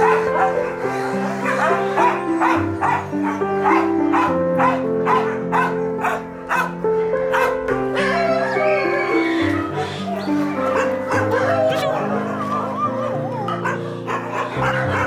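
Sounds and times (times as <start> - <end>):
background music with held chords: 0.0 - 15.0
dog yipping: 0.0 - 15.0.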